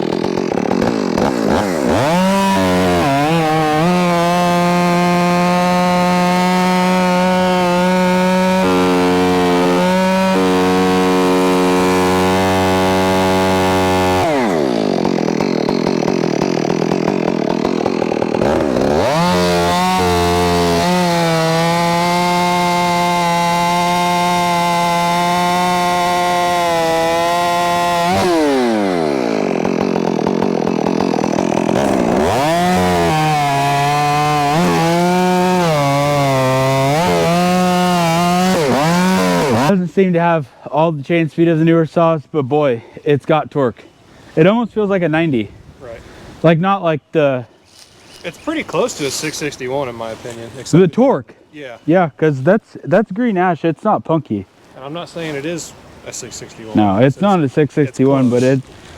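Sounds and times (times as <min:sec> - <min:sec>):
chainsaw cutting logs: 0:00.0 - 0:40.4, 0:47.6 - 0:50.9, 0:54.7 - 0:58.9.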